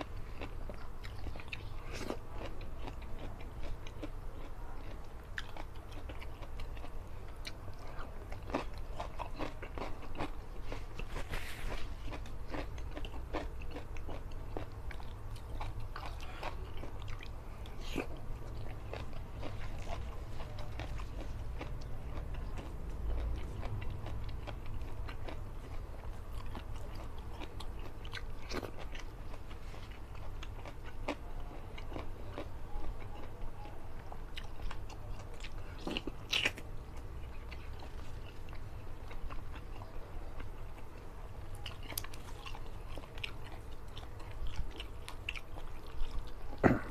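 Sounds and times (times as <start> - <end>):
man chewing and eating: 0.0 - 46.9
steady low hum: 0.0 - 46.9.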